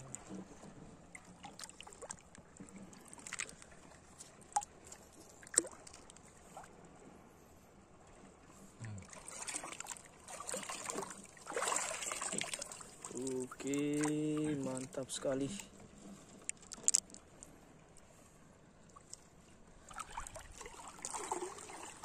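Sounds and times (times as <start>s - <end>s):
water splashing and trickling: 0.0s - 7.0s, 8.1s - 22.0s.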